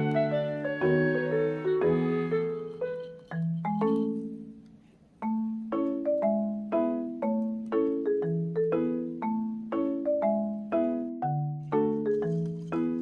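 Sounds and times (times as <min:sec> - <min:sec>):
gentle mallet instrument tune: 0:00.0 - 0:04.6, 0:05.2 - 0:13.0.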